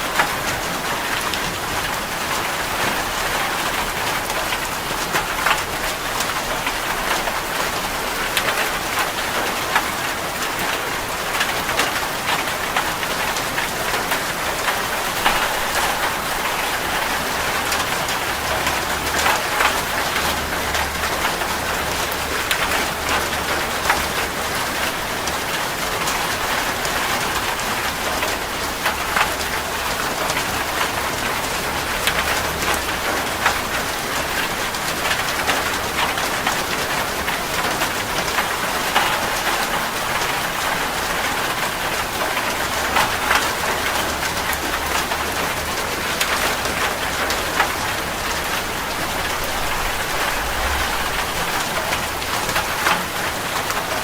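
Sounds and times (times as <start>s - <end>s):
raindrops ticking close by: 0.0s - 54.0s
steady rain: 0.0s - 54.0s.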